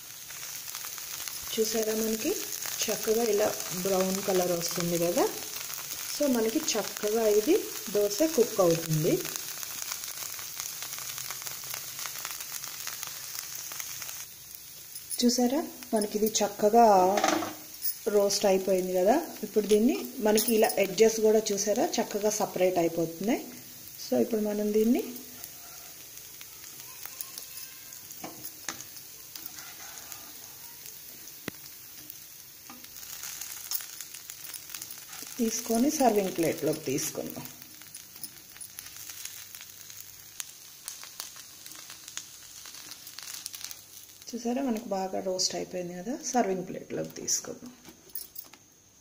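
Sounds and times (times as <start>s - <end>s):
batter sizzling on hot pan: 0.0s - 49.0s.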